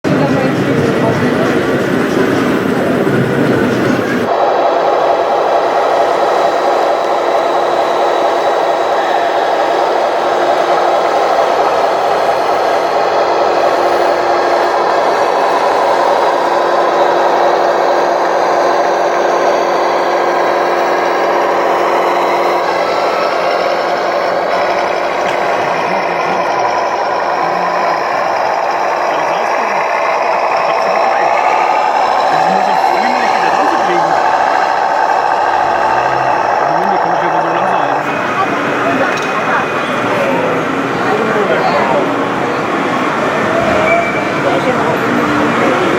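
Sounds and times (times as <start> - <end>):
steady hum: 0.1 - 45.9.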